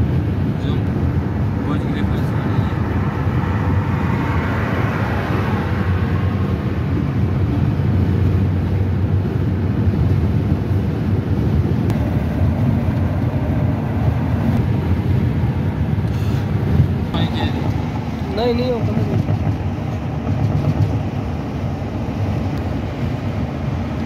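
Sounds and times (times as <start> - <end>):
car cabin road and tyre noise: 0.0 - 24.0.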